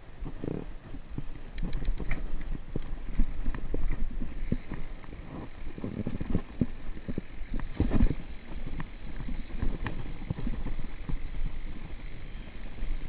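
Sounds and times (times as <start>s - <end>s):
bike tyres on dirt and stones: 0.0s - 13.0s
bike rattling over bumps: 0.1s - 13.0s.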